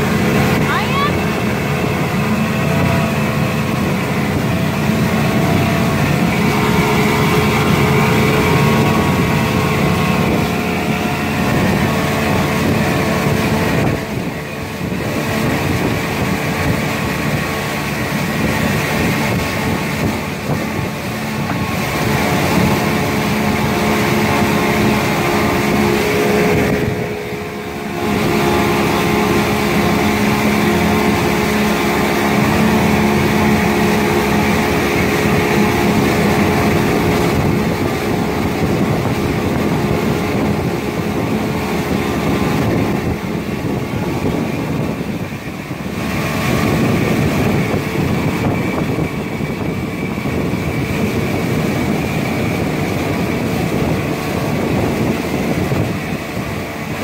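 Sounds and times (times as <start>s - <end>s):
outboard motor running: 0.0s - 57.0s
water rushing from wake: 0.0s - 57.0s.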